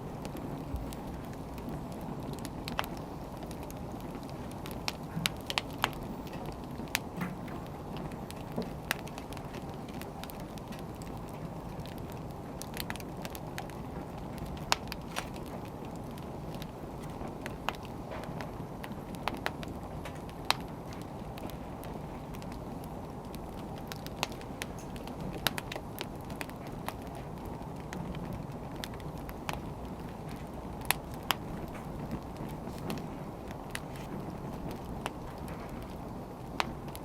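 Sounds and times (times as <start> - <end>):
firewood crackling and popping: 0.0 - 37.0
flame rushing: 0.0 - 37.0.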